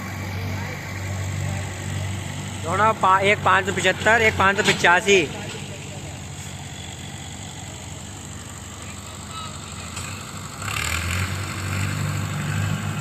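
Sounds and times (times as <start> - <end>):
tractor diesel engines chugging: 0.0 - 13.0.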